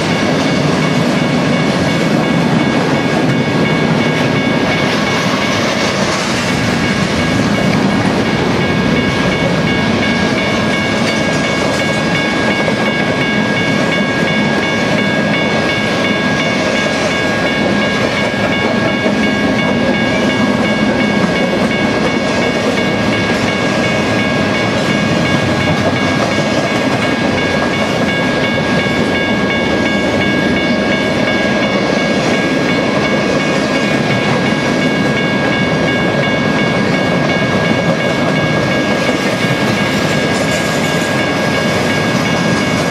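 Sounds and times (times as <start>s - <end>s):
freight train wheels on rail: 0.0s - 42.9s
steady high-pitched tones: 0.0s - 42.9s.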